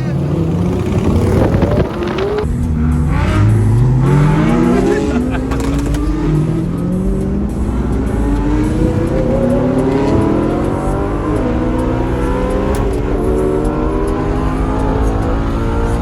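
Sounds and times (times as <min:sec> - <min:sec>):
sports car engines revving: 0:00.0 - 0:16.0.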